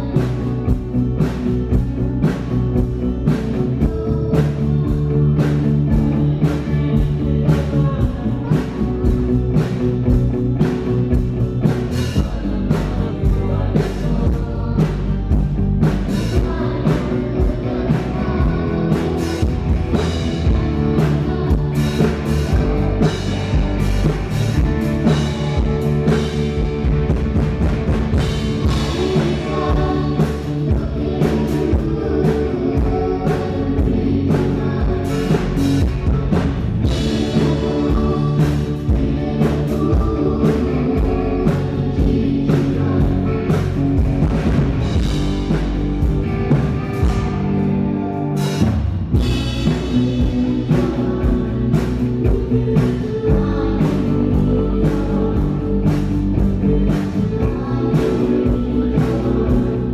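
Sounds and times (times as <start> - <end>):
person singing: 0.0 - 59.9
rock band playing: 0.0 - 59.9.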